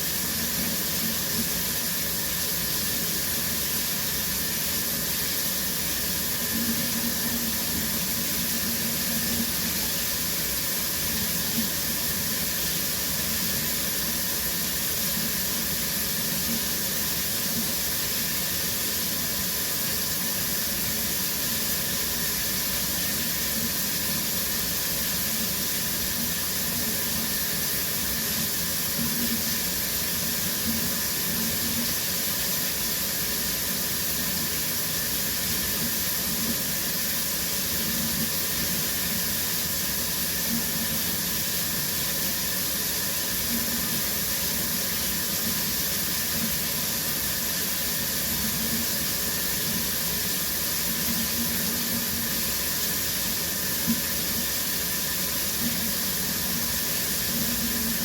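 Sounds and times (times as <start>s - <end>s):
shower water spraying: 0.0s - 58.0s.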